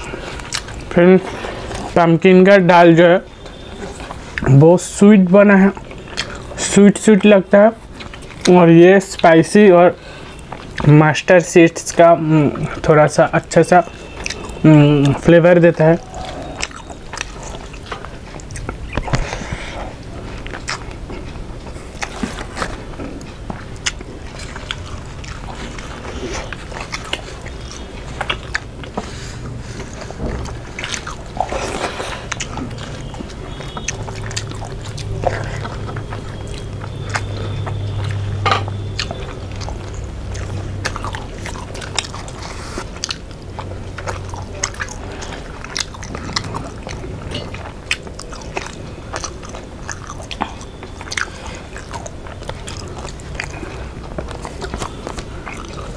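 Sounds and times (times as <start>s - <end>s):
people chewing food: 0.0s - 55.9s.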